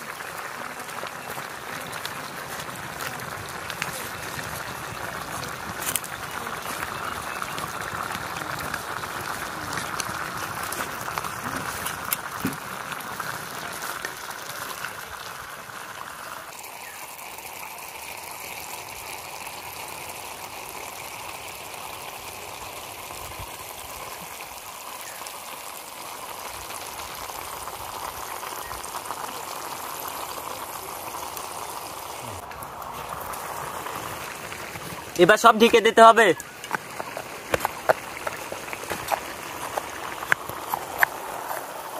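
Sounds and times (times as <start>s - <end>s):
pots simmering with bubbling hiss: 0.0s - 41.9s.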